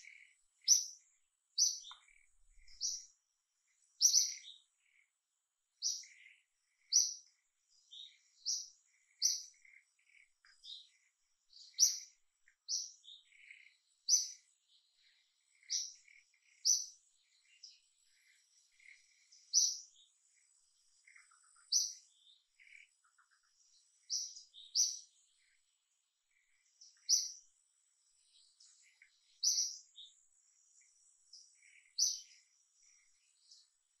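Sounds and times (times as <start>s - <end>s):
soft bird chirps: 0.0s - 34.0s.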